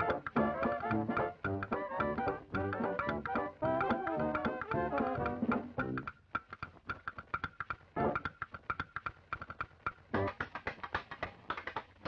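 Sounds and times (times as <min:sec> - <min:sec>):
ticking percussion music: 0:00.0 - 0:11.0.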